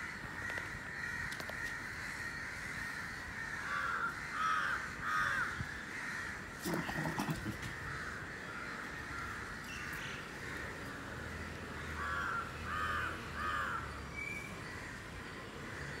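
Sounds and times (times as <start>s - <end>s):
crow cawing: 0.0s - 13.9s, 14.6s - 16.0s.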